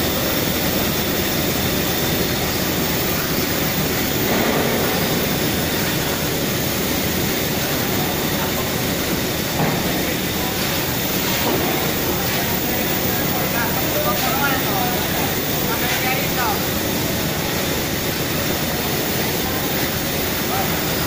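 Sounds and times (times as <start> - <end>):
machinery roaring: 0.0 - 21.0.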